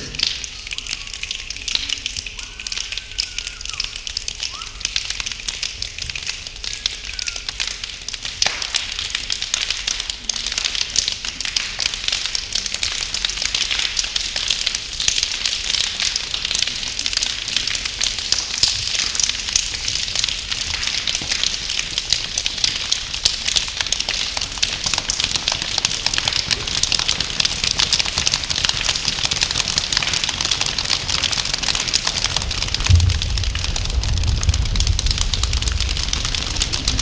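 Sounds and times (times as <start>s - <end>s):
crowd snapping and clapping: 0.0s - 37.0s.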